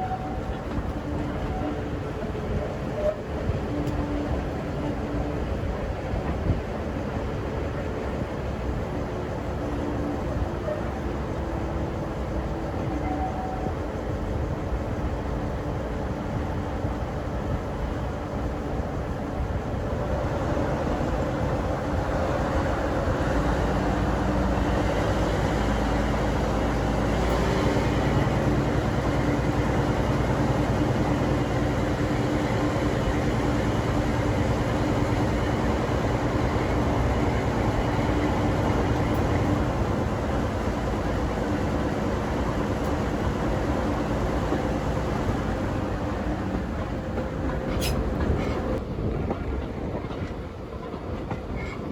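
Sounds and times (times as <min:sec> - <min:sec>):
diesel locomotive engine running: 0:00.0 - 0:51.9.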